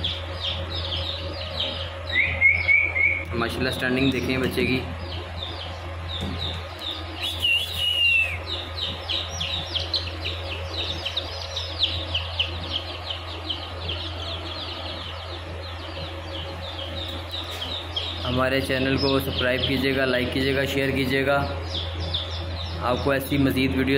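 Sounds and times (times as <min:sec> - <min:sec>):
chicks peeping: 0:00.0 - 0:23.9
low steady hum: 0:00.0 - 0:23.9.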